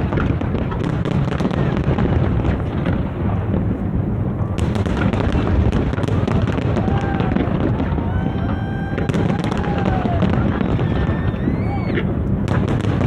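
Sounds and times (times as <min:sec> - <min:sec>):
fireworks bursts rumbling: 0:00.0 - 0:13.0
fireworks crackling: 0:00.0 - 0:13.0.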